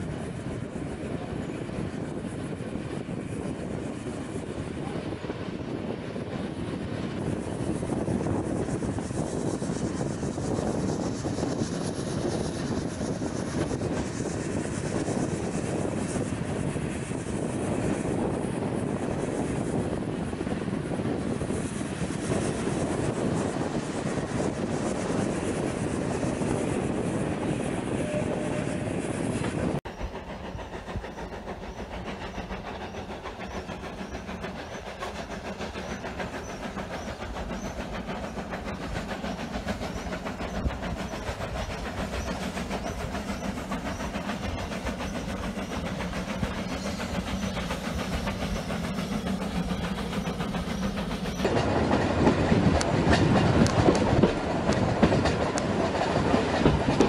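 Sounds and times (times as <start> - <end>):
steam locomotive working: 0.0 - 57.0.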